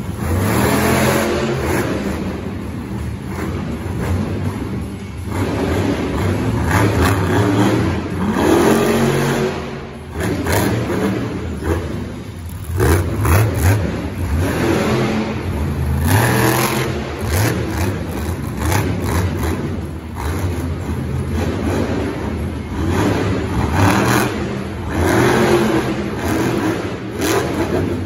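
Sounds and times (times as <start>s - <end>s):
monster truck engine revving: 0.0s - 28.0s.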